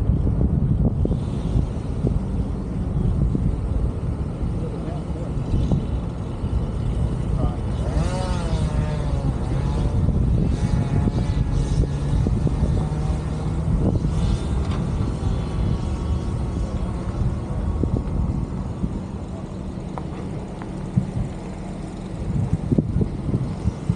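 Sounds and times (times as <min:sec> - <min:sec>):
faint engine hum: 0:00.0 - 0:23.9
vehicle rumbling on road: 0:00.0 - 0:23.9.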